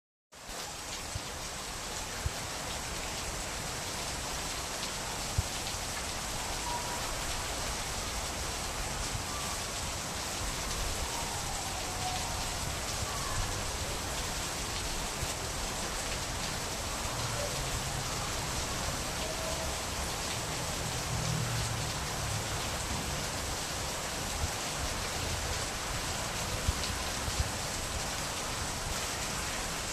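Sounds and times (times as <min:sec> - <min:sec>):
steady rainfall: 0:00.3 - 0:29.9.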